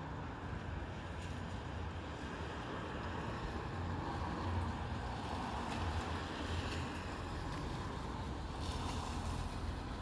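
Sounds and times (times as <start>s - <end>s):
wind gusts: 0.0s - 10.0s.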